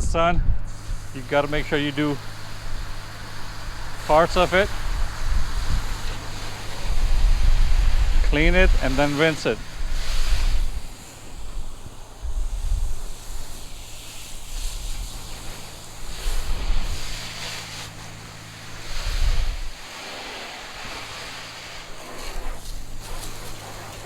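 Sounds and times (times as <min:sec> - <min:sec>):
wind on microphone: 0:00.0 - 0:19.9
pressure washer spraying water: 0:00.6 - 0:24.0.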